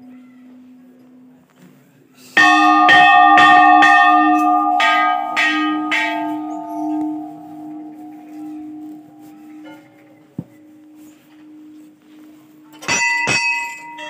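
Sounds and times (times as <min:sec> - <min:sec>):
hanging temple bells ringing: 0:02.4 - 0:14.0.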